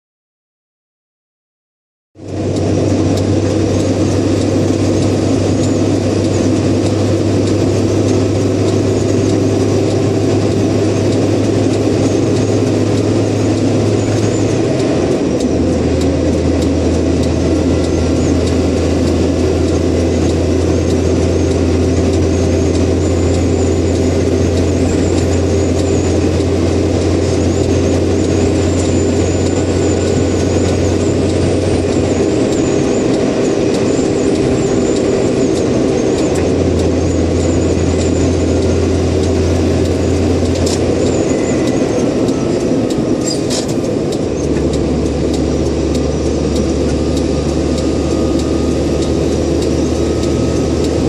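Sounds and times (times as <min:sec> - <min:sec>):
road and tyre noise: 0:02.2 - 0:51.0
truck engine drone: 0:02.2 - 0:51.0.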